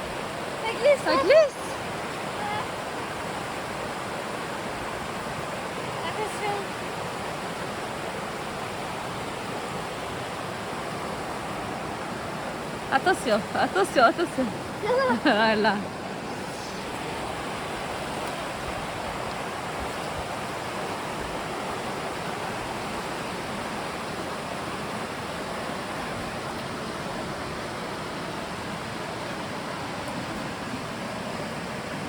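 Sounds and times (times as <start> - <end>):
river water rushing over rocks: 0.0 - 32.0.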